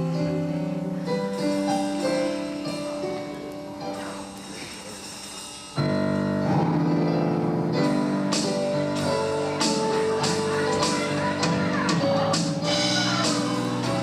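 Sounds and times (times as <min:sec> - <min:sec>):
band music with guitar: 0:00.0 - 0:14.0.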